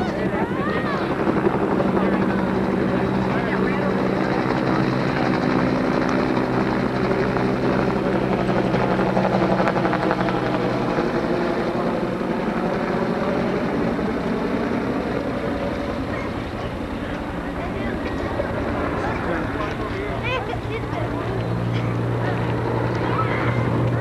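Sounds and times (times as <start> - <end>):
helicopter engine tones: 0.0 - 24.0
helicopter rotor beating: 0.0 - 24.0.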